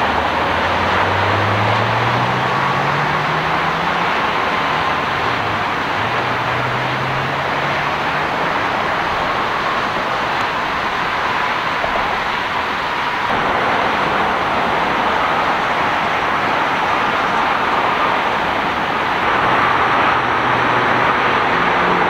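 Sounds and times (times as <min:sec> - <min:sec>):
car engine driving away: 0:00.0 - 0:11.2, 0:13.2 - 0:22.0
road traffic noise: 0:00.0 - 0:22.0.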